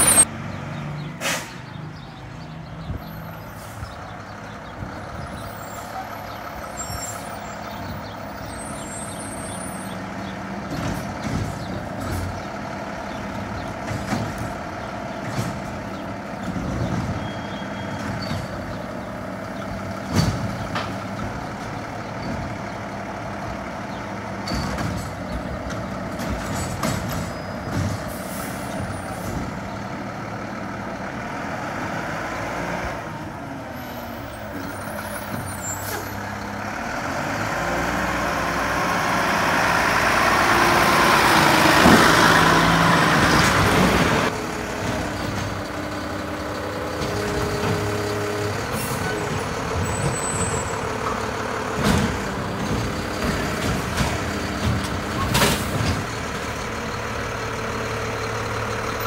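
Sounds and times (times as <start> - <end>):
garbage truck engine running: 0.0 - 59.0.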